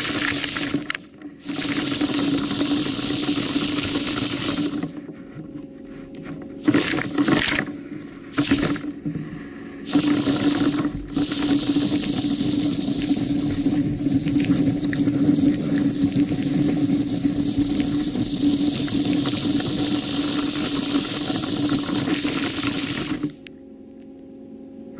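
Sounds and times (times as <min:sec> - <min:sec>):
compressed air hissing through hoses: 0:00.0 - 0:05.0, 0:06.6 - 0:07.7, 0:08.3 - 0:08.9, 0:09.8 - 0:23.4
low hum: 0:00.0 - 0:24.9.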